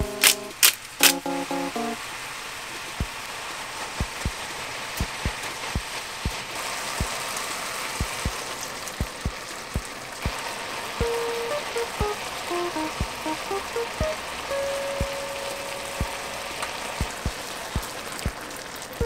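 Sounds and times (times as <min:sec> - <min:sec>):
food sizzling in frying pan: 0:01.0 - 0:19.0.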